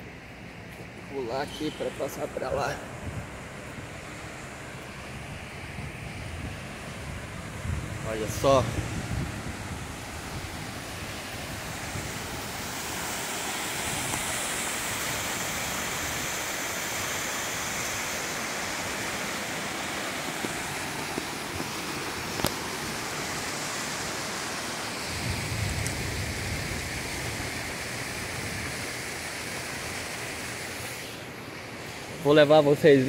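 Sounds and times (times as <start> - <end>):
waterfall rushing: 1.2 - 25.6, 26.2 - 33.0.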